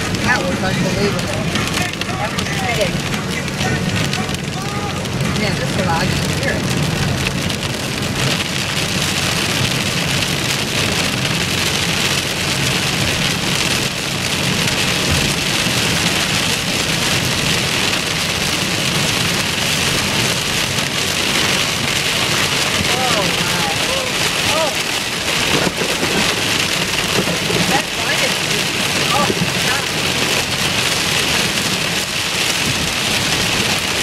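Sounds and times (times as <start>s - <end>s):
heavy rain on car roof: 0.0s - 34.0s
road and engine rumble: 0.0s - 34.0s.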